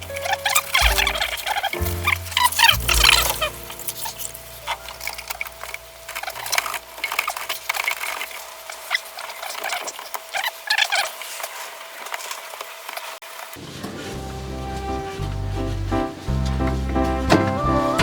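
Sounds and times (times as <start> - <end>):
scratching and rubbing: 0.0 - 18.0.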